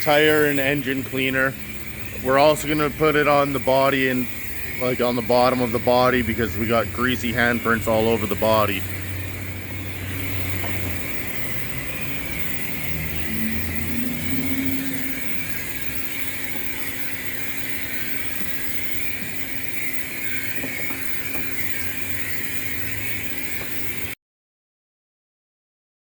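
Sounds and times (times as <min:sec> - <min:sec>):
spray wand hissing: 0:00.0 - 0:24.2
steady low hum: 0:00.0 - 0:24.2.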